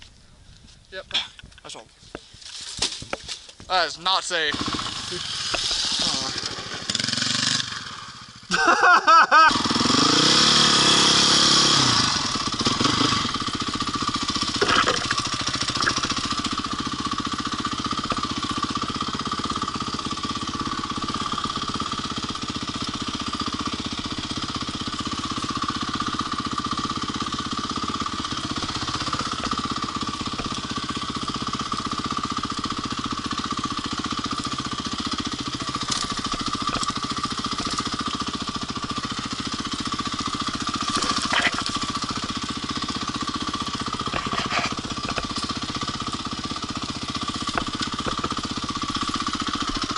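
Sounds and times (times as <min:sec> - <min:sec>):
dirt bike engine running: 0:02.2 - 0:49.9.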